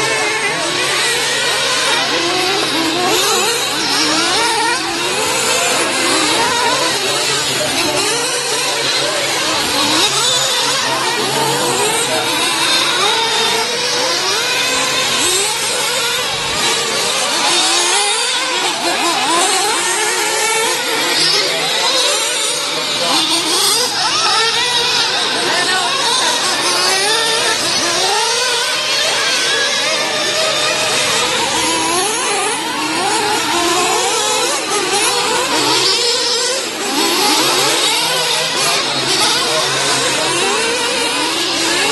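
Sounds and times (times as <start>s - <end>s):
small model engines buzzing: 0.0s - 41.9s.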